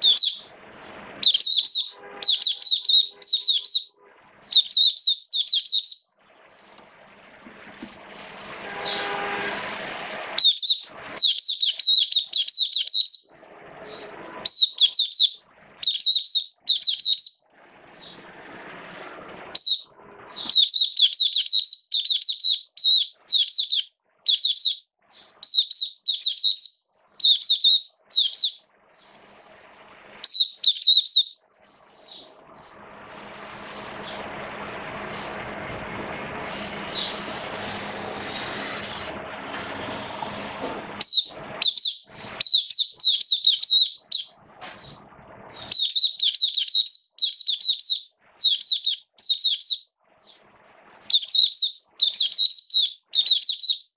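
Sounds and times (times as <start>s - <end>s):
bird twittering song: 0.0s - 0.5s, 1.2s - 6.8s, 10.4s - 18.3s, 18.9s - 32.8s, 36.4s - 39.9s, 41.0s - 50.4s, 51.1s - 53.9s.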